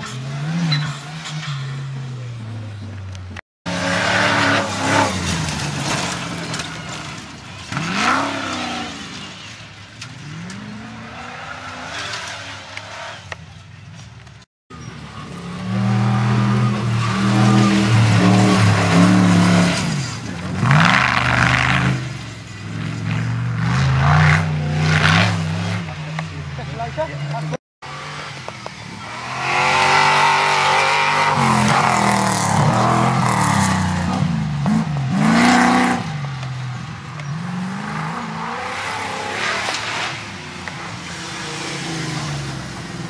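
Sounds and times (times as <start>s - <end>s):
off-road trucks revving past: 0.0s - 43.0s.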